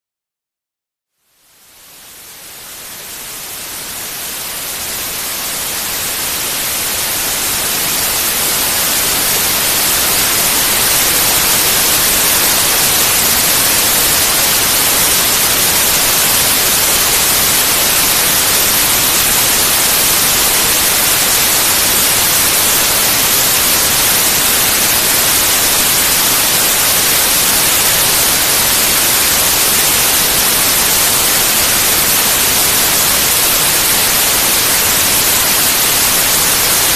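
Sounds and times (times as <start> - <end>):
white noise hiss: 1.1 - 36.9.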